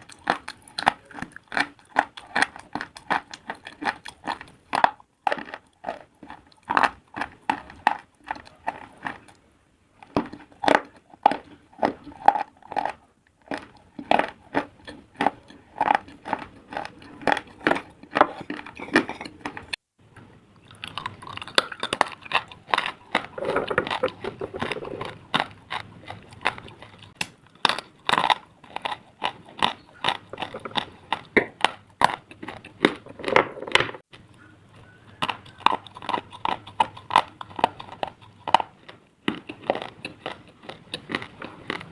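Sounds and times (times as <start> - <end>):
person chewing crunchy slate: 0.0 - 9.4, 10.0 - 19.8, 20.6 - 41.9.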